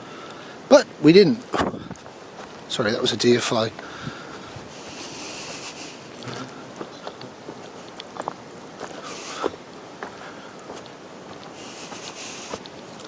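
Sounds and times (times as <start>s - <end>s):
rustling hiss: 0.0s - 13.0s
footsteps crunching on ground: 1.6s - 13.0s.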